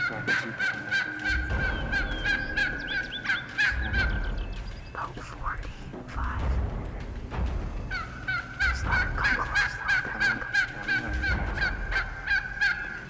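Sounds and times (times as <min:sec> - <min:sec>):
wild turkey yelping: 0:00.0 - 0:13.0.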